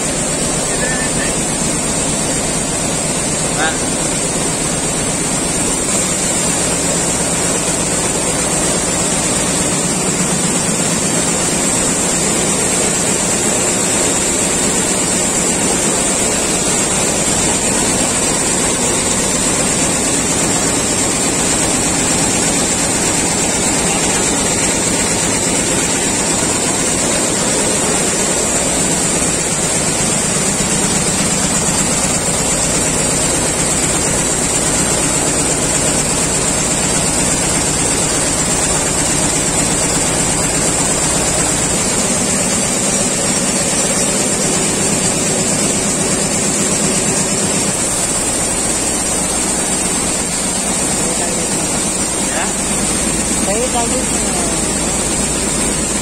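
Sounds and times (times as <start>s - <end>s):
quilting machine clattering: 0.0s - 56.0s.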